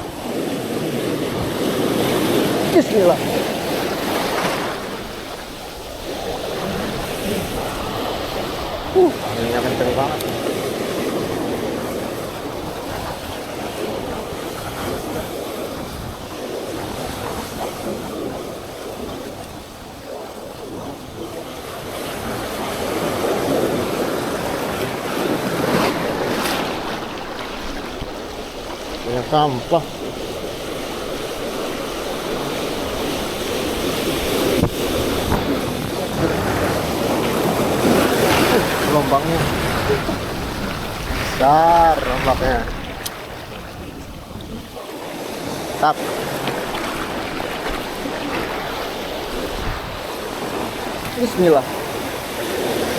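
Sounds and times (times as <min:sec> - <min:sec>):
big waves breaking on shore: 0:00.0 - 0:52.9
surf washing onto beach: 0:00.0 - 0:52.9
wind buffeting microphone: 0:00.0 - 0:52.9.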